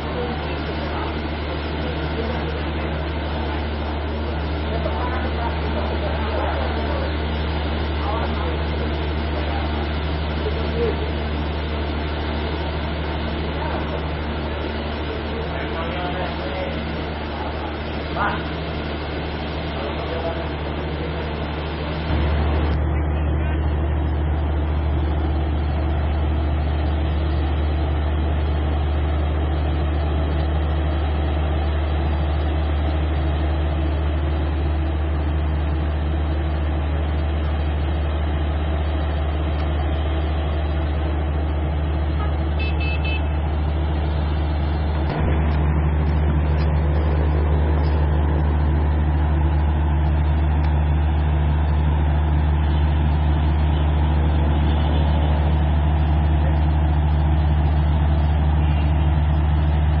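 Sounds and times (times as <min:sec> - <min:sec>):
engine idling: 0:00.0 - 1:00.0.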